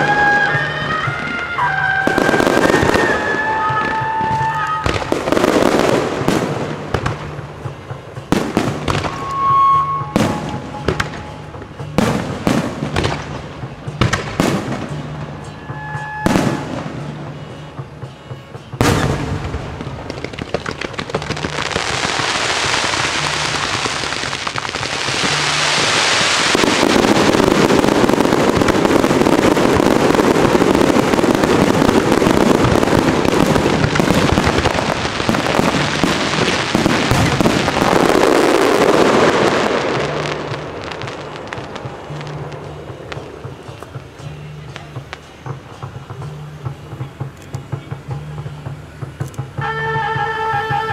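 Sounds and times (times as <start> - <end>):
firework bursts banging: 0.0 - 50.9
fireworks crackle: 0.0 - 50.9.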